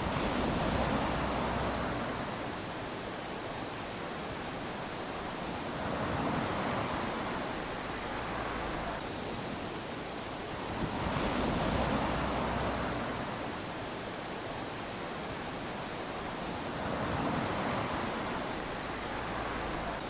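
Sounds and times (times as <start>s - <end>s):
small waves lapping on shore: 0.0s - 20.0s.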